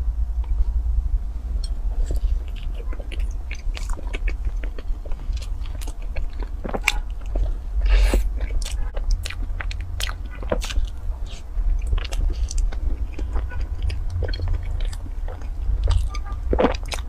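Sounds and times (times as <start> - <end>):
chewing with wet mouth clicks: 1.6 - 17.0.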